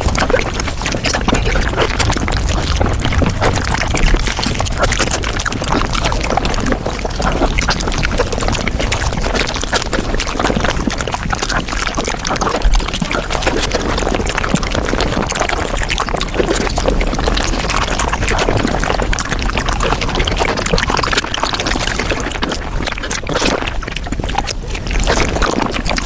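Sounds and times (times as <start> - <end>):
wet chewing and slurping: 0.0 - 26.0.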